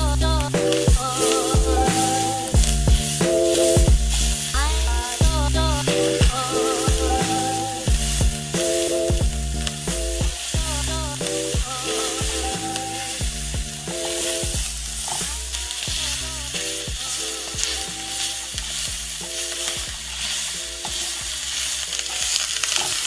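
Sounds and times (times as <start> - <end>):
background music: 0.0 - 23.0
noodles sizzling in a pan: 0.0 - 23.0
metal spatula scraping a pan: 0.5 - 23.0.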